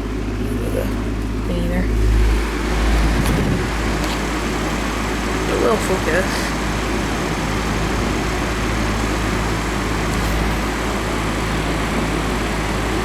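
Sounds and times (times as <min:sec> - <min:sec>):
fan motor hum: 0:00.0 - 0:13.0.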